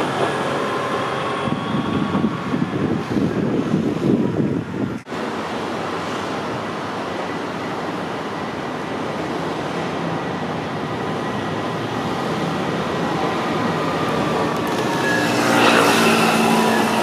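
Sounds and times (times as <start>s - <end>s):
tram running on rails: 0.0s - 17.0s.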